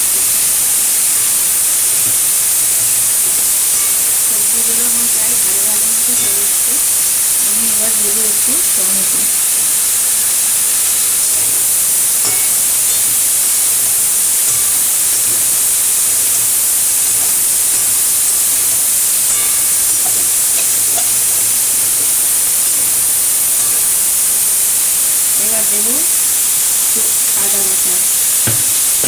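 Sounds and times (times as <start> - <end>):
vegetables sizzling in a pan: 0.0 - 29.0.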